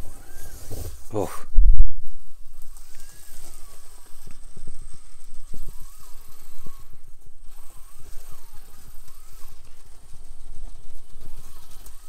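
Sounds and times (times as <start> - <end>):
electric motor whine: 0.0 - 1.2, 1.9 - 12.0.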